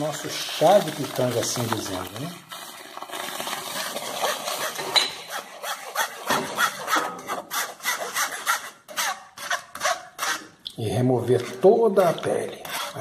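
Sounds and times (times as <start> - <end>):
plastic spoon scraping mesh sieve: 0.0 - 13.0.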